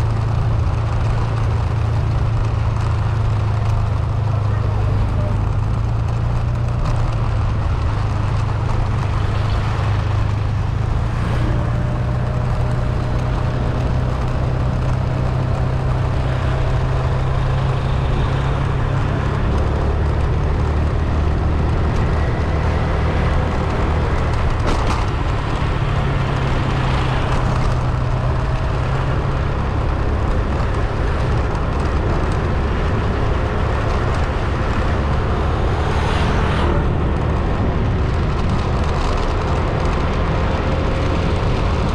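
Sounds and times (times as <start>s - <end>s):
car engine drone: 0.0s - 41.9s
road noise: 0.0s - 41.9s.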